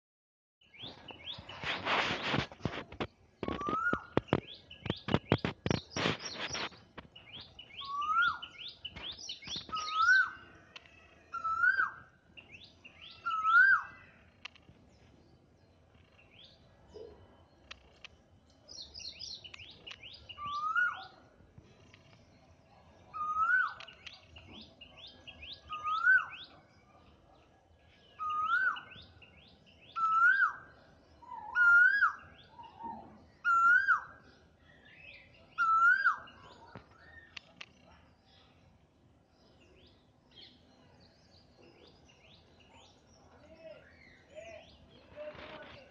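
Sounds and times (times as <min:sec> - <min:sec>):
small birds chirping: 0:00.6 - 0:45.9.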